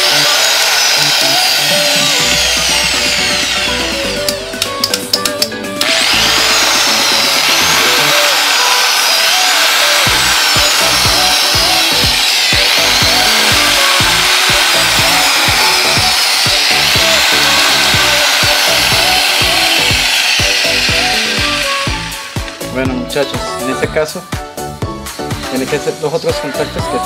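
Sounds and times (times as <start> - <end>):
angle grinder motor running: 0.0 - 24.2
background music with steady beat: 0.0 - 27.0.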